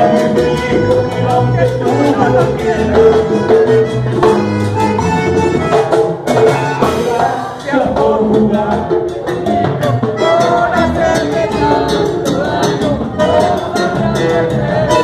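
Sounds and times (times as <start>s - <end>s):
button accordion playing: 0.0s - 15.0s
steady percussion beat: 0.0s - 15.0s.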